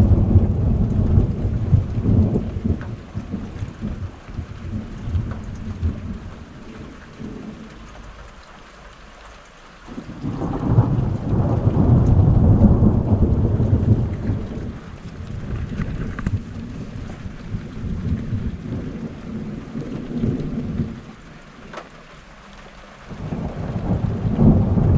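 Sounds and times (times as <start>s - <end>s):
rolling thunder: 0.0s - 8.0s, 9.9s - 21.4s, 23.1s - 24.9s
rain falling: 0.0s - 24.9s.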